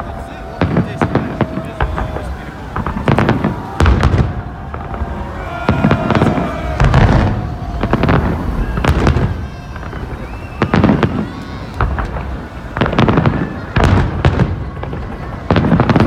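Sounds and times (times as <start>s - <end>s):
echoing crackle of fireworks: 0.0s - 16.0s
fireworks bangs: 0.0s - 16.0s.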